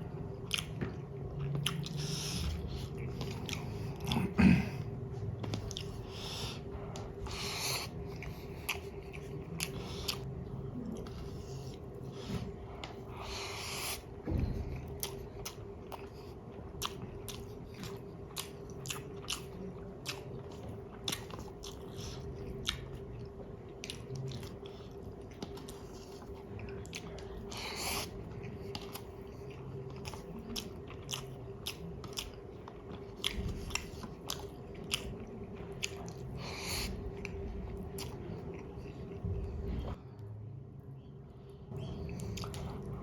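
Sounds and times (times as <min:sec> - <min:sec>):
close-miked chewing: 0:00.0 - 0:40.0, 0:41.7 - 0:43.0.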